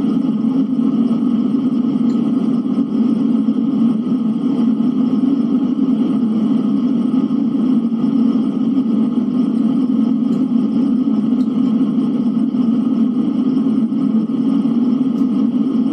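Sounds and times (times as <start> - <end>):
blizzard wind rushing: 0.0 - 15.9.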